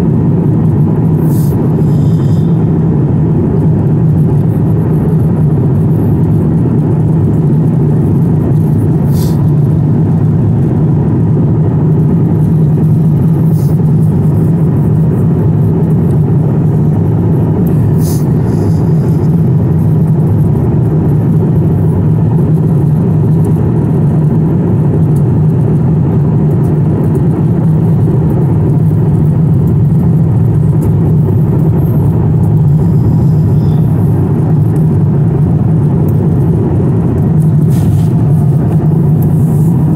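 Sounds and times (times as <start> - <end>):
jet airliner cabin roar: 0.0 - 39.9.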